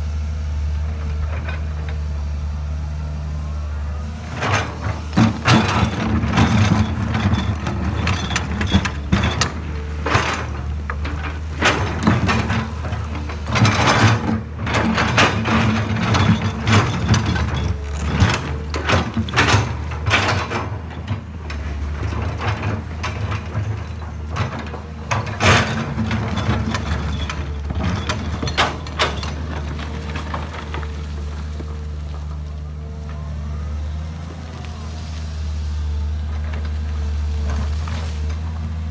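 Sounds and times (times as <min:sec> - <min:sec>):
diesel engine running: 0:00.0 - 0:38.9
excavator bucket scraping stones: 0:04.2 - 0:38.9.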